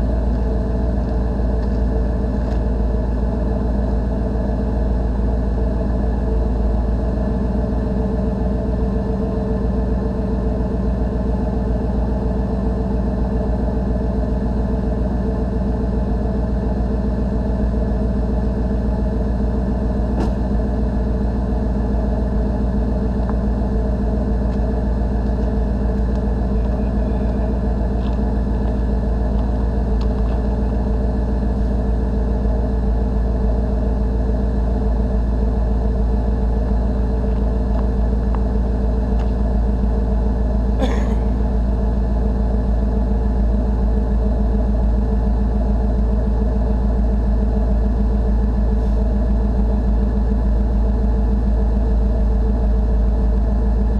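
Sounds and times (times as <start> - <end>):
pickup engine idling: 0.0 - 53.9.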